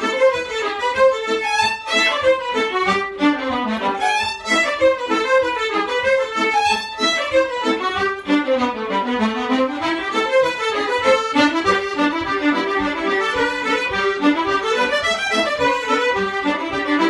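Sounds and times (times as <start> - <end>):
fiddles: 0.0 - 17.0
piano accordion: 0.0 - 17.0.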